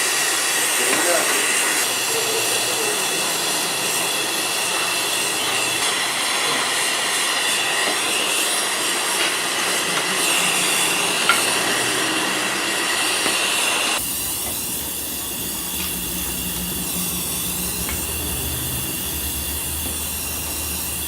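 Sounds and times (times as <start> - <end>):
machine whining and hissing: 0.0 - 21.0.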